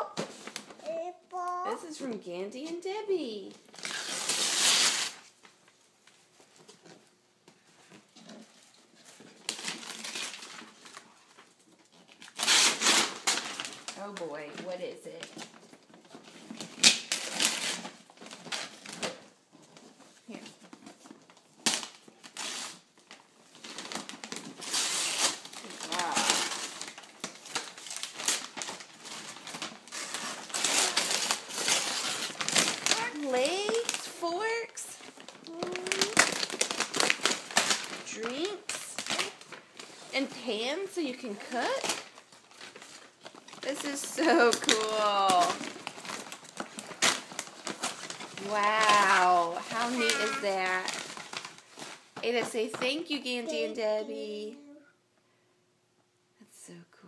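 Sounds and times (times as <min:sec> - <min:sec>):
wrapping paper tearing: 0:03.6 - 0:05.4, 0:08.2 - 0:52.4.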